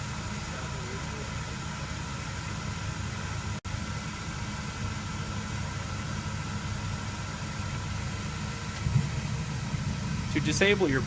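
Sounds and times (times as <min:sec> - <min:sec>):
asphalt reclaimer burner humming: 0:00.0 - 0:11.0.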